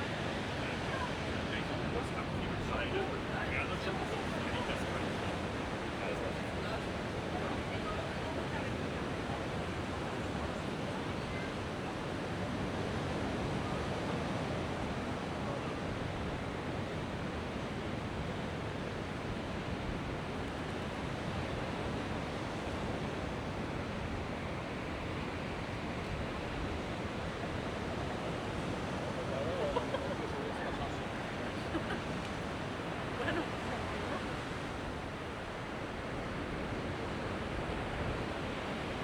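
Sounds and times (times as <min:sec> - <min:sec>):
surf washing onto beach: 0:00.0 - 0:39.0.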